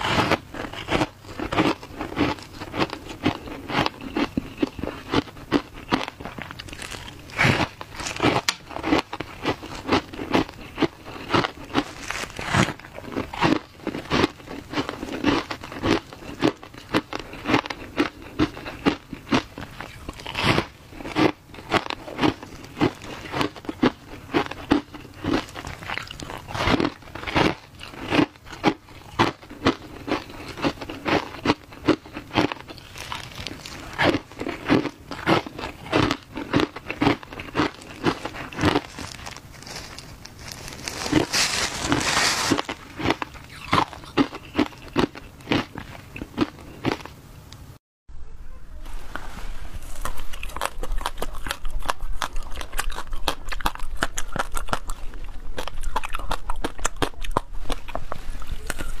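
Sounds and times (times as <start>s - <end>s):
ice crunching being chewed: 0.0s - 47.2s, 49.8s - 59.0s.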